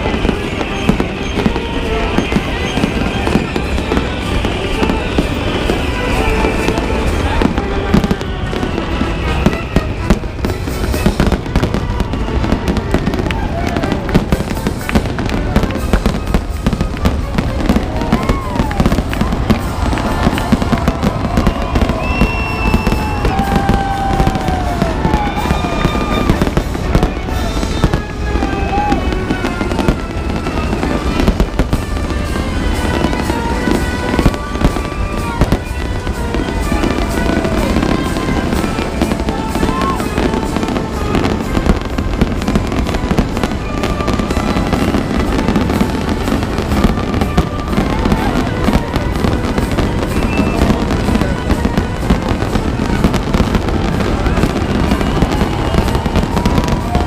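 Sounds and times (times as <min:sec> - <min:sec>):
fireworks bangs and crackles: 0:00.0 - 0:57.0
music playing: 0:00.0 - 0:57.0.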